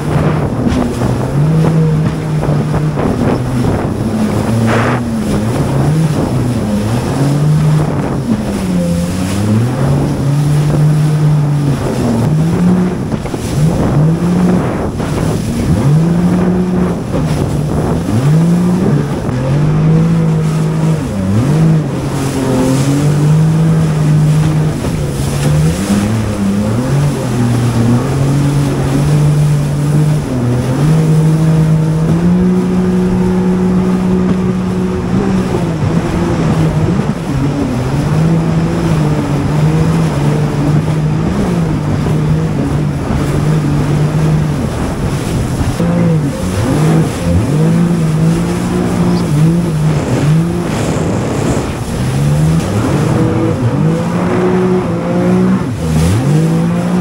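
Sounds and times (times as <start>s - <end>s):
jet ski engine: 0.0s - 57.0s
wind and water rushing: 0.0s - 57.0s.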